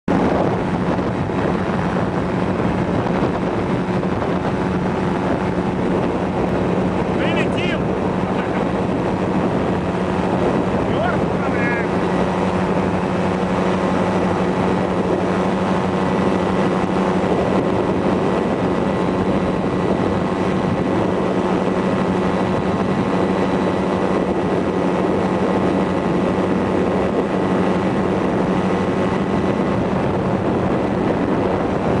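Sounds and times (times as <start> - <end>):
ultralight engine and propeller hum: 0.0 - 32.0
wind on microphone: 0.0 - 32.0.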